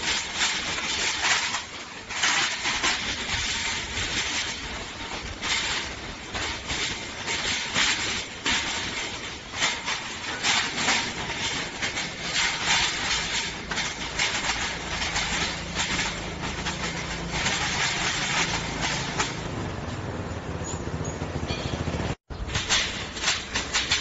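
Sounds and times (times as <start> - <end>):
wire mesh cage rattling: 0.0 - 19.7, 21.8 - 24.0.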